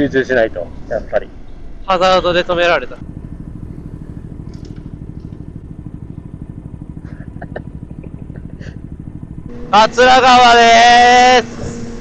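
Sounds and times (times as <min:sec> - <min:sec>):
moped engine idling: 0:00.4 - 0:12.0.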